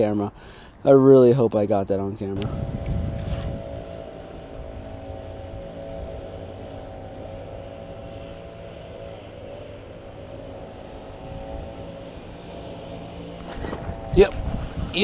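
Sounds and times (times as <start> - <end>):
steady engine drone: 2.4 - 15.0.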